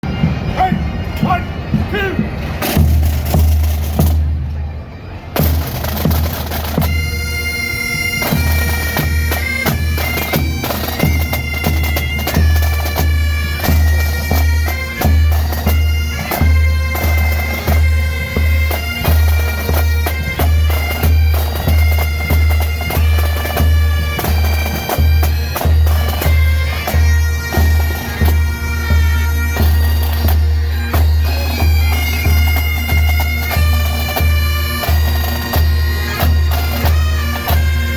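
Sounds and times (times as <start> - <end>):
bagpipes playing a tune: 0.0 - 37.9.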